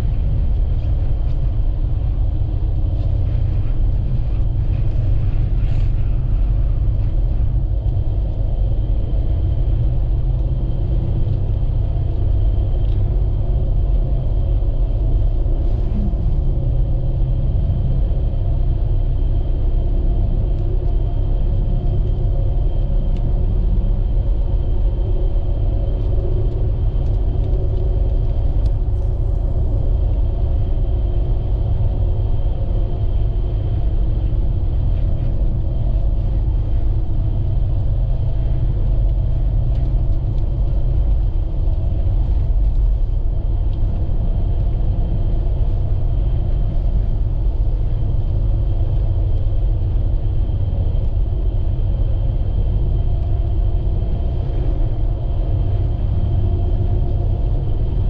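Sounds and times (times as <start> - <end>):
engine and tyre rumble in car cabin: 0.0 - 58.0.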